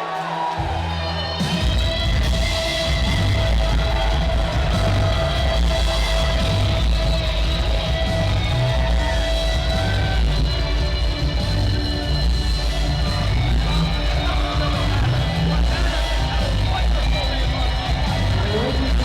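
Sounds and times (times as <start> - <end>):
rock entrance music: 0.0 - 19.0.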